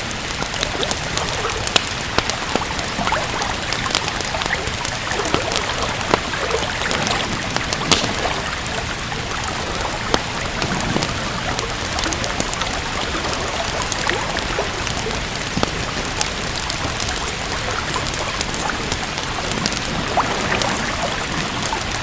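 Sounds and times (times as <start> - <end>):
steady rain: 0.0 - 22.0
wood fire crackling and popping: 0.0 - 22.0.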